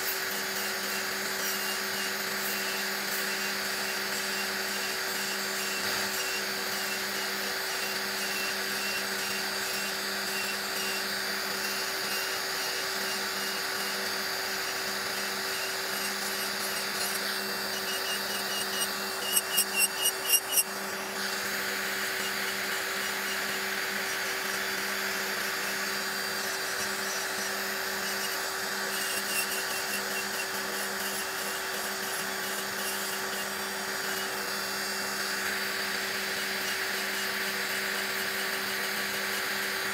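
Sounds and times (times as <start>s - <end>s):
electric nail drill whirring: 0.0s - 39.9s.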